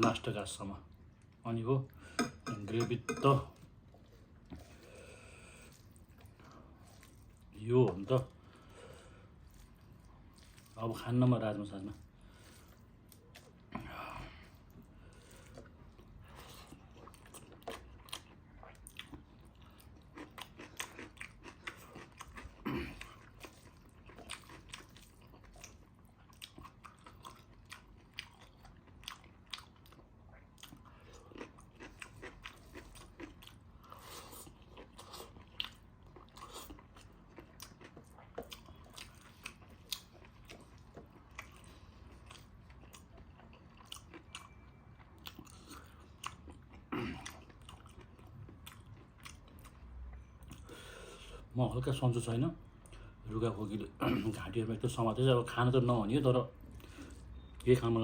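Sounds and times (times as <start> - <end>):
person chewing and crunching food: 2.3 - 51.3.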